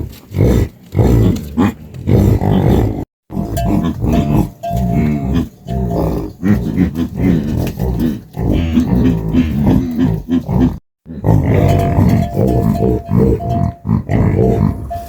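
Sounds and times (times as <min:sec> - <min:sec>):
farm animal grunting and calling: 0:00.0 - 0:15.0.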